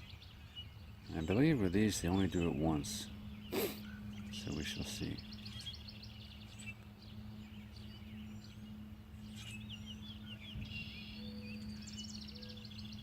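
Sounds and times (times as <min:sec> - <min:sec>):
songbirds chirping and trilling: 0:00.0 - 0:13.0
steady low hum: 0:00.0 - 0:13.0.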